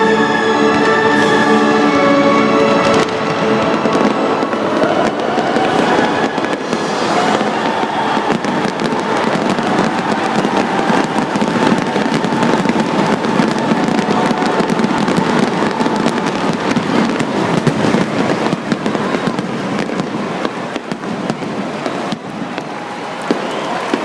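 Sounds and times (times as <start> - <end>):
firework bursts and crackling: 0.8 - 24.0.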